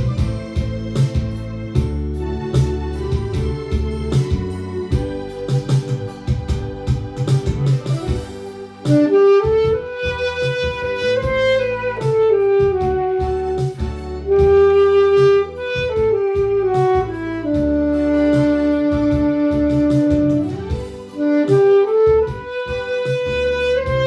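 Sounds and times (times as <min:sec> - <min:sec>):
backing track with keyboard and beat: 0:00.0 - 0:24.0
saxophone melody: 0:01.8 - 0:24.0.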